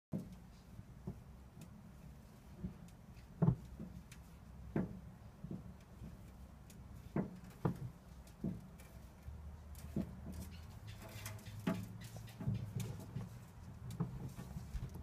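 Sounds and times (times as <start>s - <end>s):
soft irregular knocks: 0.1s - 15.0s.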